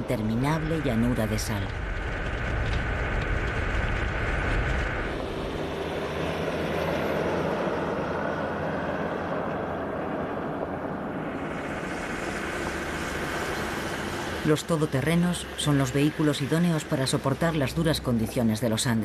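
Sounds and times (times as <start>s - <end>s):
vehicle engine and tyre noise: 0.0s - 18.5s.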